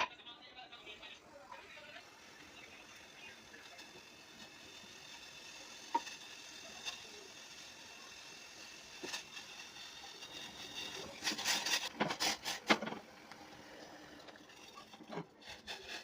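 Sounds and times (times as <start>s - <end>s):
low sizzle: 0.0s - 16.0s.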